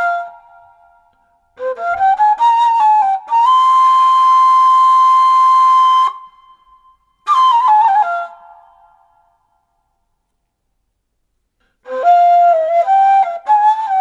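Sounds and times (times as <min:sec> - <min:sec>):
flute music: 0:00.0 - 0:09.8, 0:11.6 - 0:14.0.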